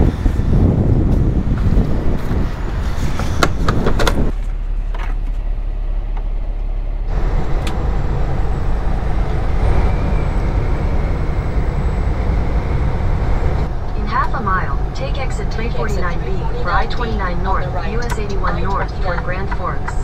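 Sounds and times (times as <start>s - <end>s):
truck engine and road drone: 0.0s - 20.0s.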